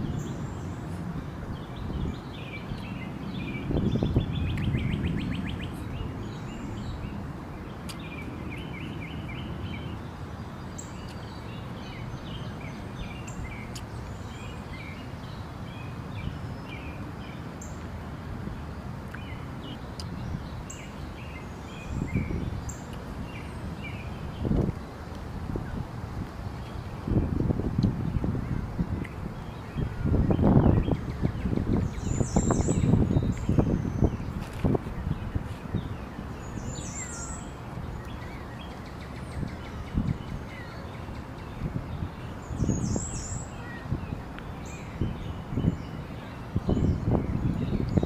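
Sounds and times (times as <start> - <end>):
small birds chirping: 0.0 - 17.9, 26.5 - 48.0.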